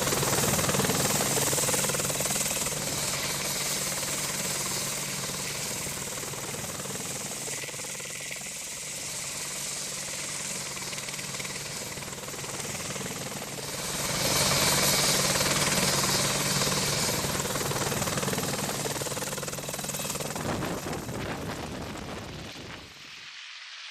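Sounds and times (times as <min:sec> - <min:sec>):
helicopter flying: 0:00.0 - 0:23.2.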